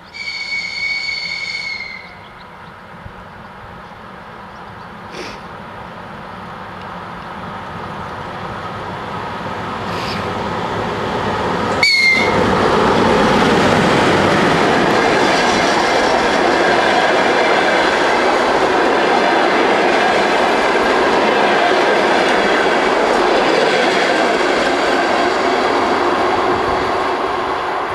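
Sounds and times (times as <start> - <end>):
electric locomotive passing: 0.0 - 27.9
train coaches rumbling and clattering: 0.0 - 27.9.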